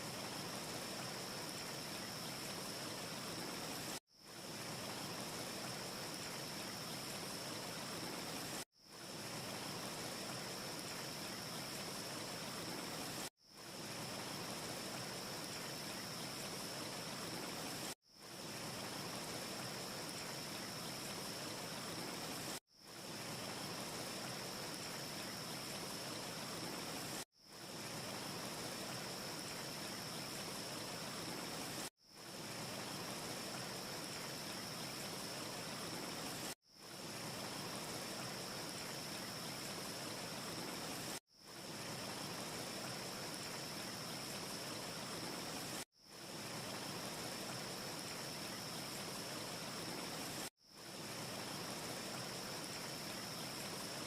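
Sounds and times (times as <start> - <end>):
steady ambience hiss: 0.0 - 54.0.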